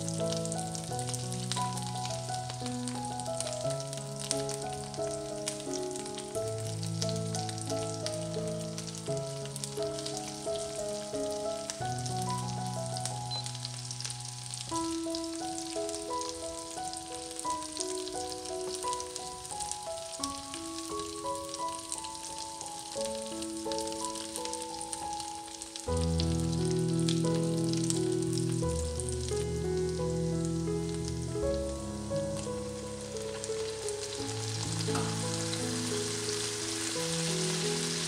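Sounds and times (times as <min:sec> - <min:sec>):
frying sizzle with pops: 0:00.0 - 0:38.0
slow background music: 0:00.0 - 0:38.0.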